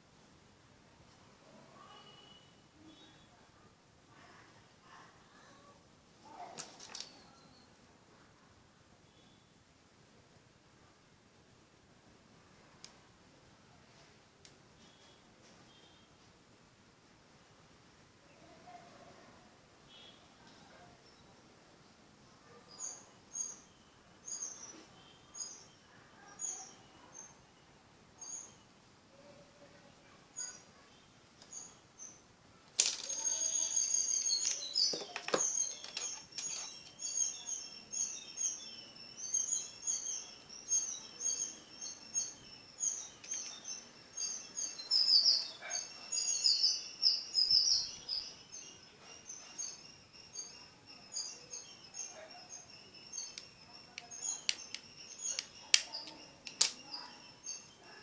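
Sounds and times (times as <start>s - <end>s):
small birds chirping: 1.4s - 9.8s, 12.6s - 16.4s, 17.5s - 58.0s.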